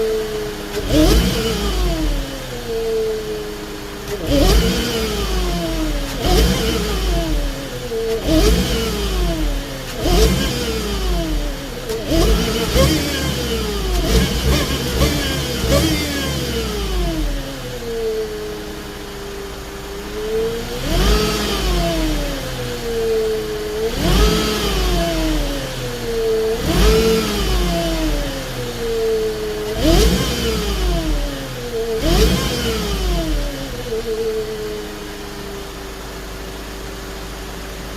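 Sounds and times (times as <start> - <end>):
car engine revving: 0.0 - 37.9
supercharger whine: 0.0 - 37.9.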